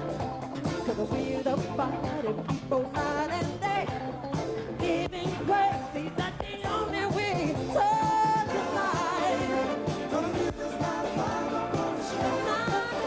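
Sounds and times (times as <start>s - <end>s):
live pop-funk band playing: 0.0s - 13.0s
lead singer singing: 0.8s - 13.0s.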